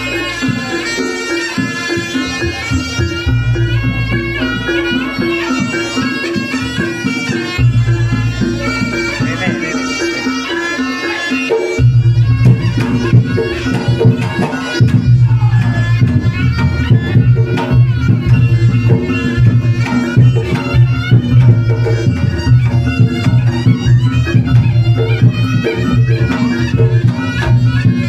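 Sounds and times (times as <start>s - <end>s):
drums beating: 0.0s - 28.0s
reedy shawm melody: 0.0s - 28.0s.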